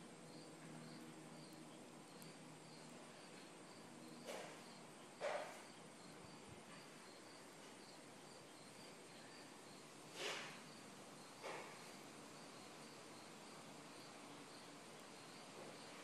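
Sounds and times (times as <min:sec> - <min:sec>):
faint insect chirping: 0:00.0 - 0:16.0.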